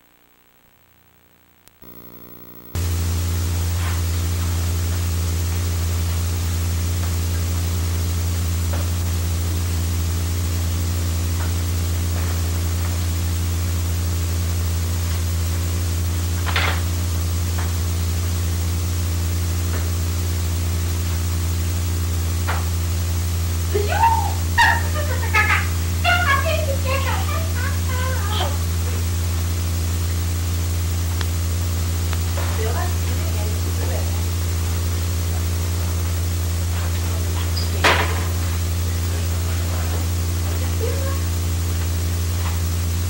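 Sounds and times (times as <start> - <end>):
low hum with hiss: 0.0 - 43.0.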